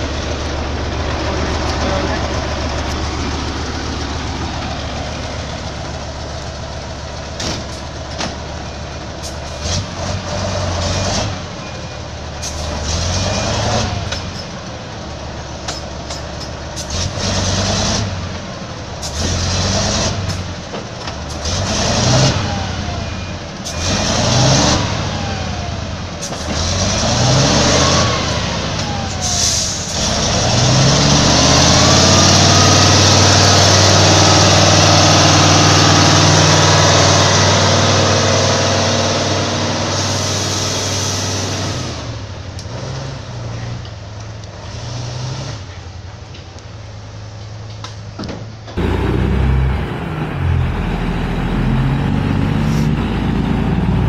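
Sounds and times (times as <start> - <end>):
diesel truck engine revving: 0.0 - 48.0, 48.6 - 54.0.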